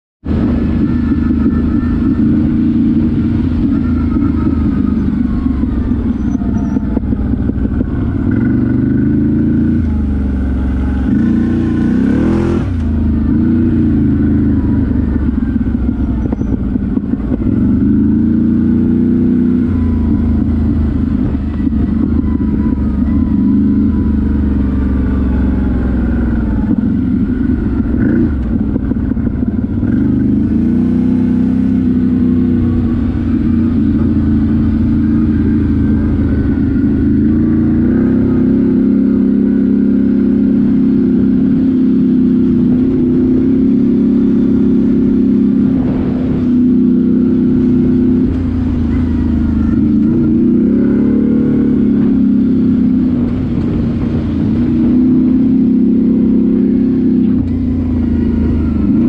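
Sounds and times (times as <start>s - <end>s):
quad bike engine revving: 0.3s - 59.0s.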